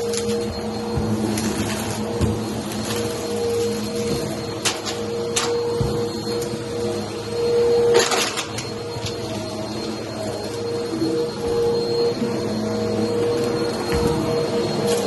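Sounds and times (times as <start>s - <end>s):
vacuum cleaner humming on carpet: 0.0s - 15.0s.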